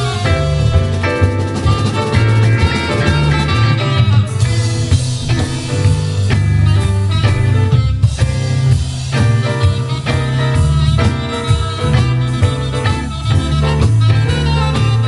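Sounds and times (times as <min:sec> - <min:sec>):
bass line: 0:00.0 - 0:15.0
drum kit: 0:00.0 - 0:15.0
keyboards: 0:00.0 - 0:15.0.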